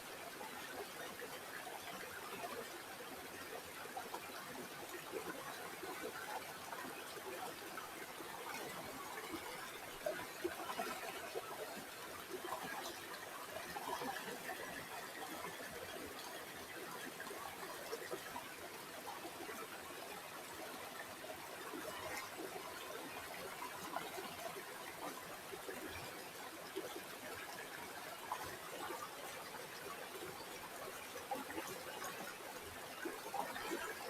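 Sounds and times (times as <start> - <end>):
river water babbling: 0.1 - 34.0.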